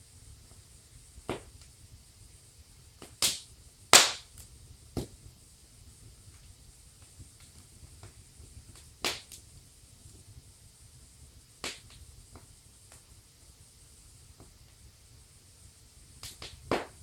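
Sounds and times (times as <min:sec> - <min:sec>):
fire popping: 0:00.0 - 0:17.0
low rumble of burning: 0:00.0 - 0:17.0
wood fire crackling: 0:00.0 - 0:17.0.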